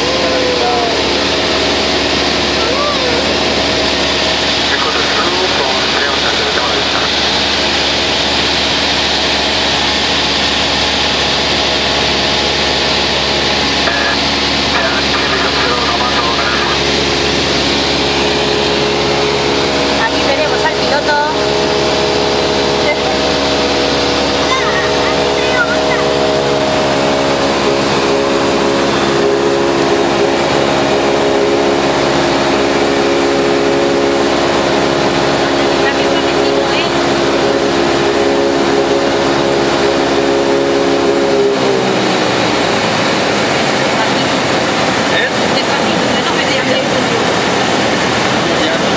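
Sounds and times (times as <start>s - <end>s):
light aircraft engine droning: 0.0s - 48.9s.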